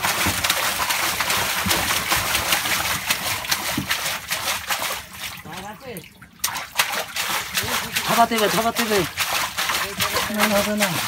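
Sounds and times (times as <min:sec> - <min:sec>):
hose jetting water: 0:00.0 - 0:05.7, 0:06.4 - 0:11.0
hands stirring splashing water: 0:00.0 - 0:11.0.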